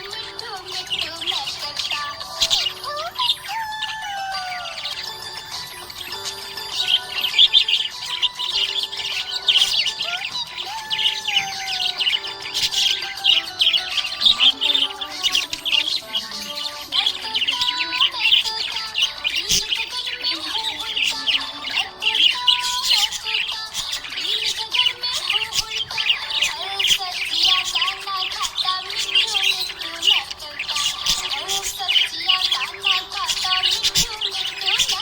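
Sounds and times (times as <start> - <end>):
budgerigar chirping and warbling: 0.0 - 35.0.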